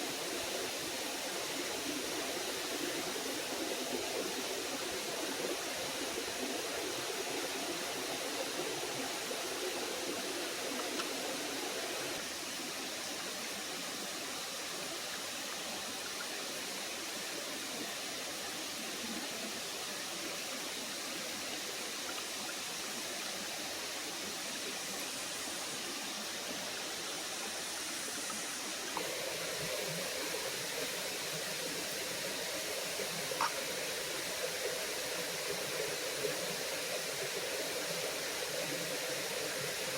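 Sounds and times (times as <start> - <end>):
waterfall and stream rushing: 0.0 - 15.6, 16.4 - 39.9.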